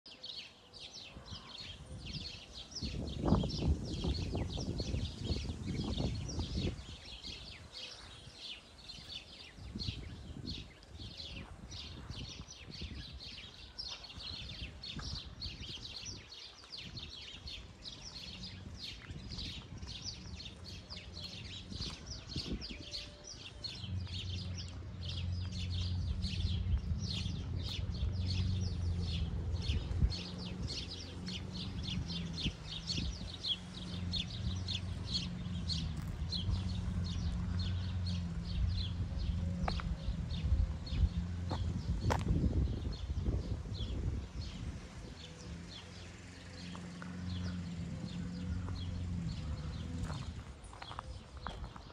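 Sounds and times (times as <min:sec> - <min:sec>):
small birds chirping: 0:00.1 - 0:51.9.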